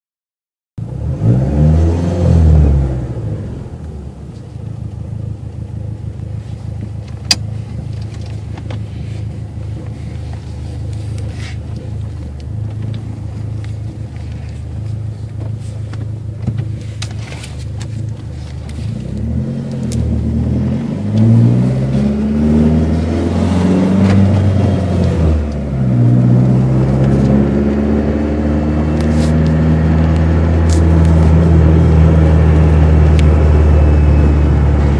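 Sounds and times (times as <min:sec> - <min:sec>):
car engine revving and idling: 0:00.8 - 0:34.9.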